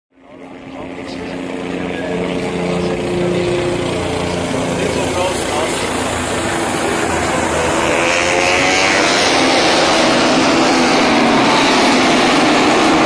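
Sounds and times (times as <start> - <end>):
racing motorcycles passing: 0.4 - 13.0.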